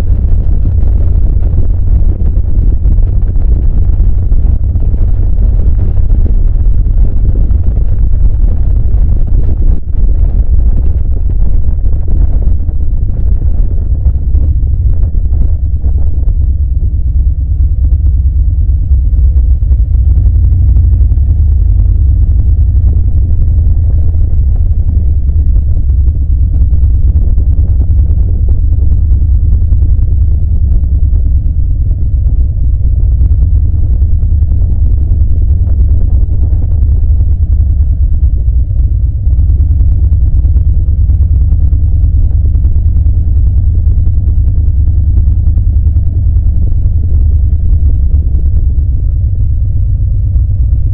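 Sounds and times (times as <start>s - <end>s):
motorcycle engine rumbling: 0.0s - 50.9s.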